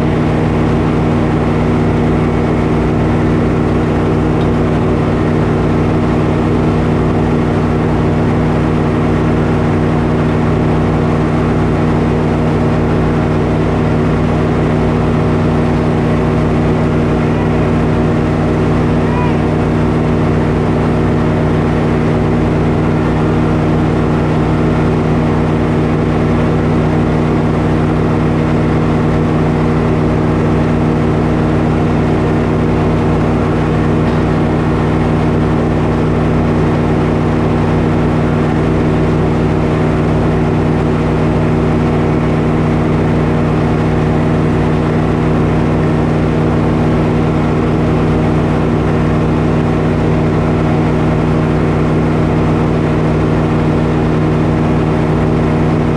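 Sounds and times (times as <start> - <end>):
sawmill running: 0.0 - 55.9.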